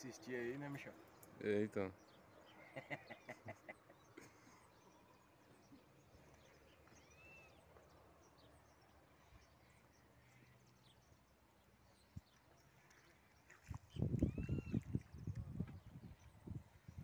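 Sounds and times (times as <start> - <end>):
faint high bird chirps: 2.0 - 11.3, 11.9 - 17.0.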